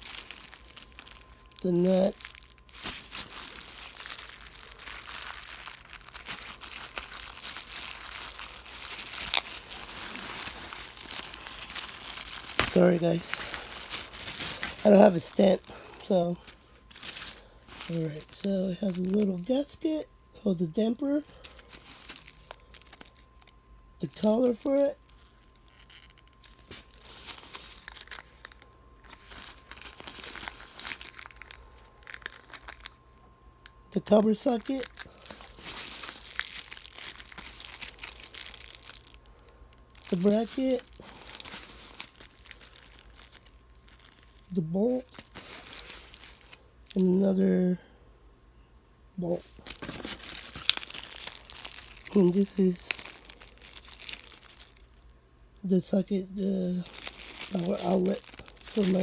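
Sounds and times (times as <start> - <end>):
plastic packaging crinkling: 0.0 - 47.4, 49.4 - 55.2, 55.8 - 59.0.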